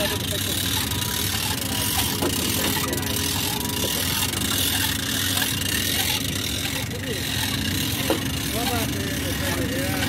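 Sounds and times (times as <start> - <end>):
engine idling hum: 0.0 - 10.0
faint voices: 0.0 - 10.0.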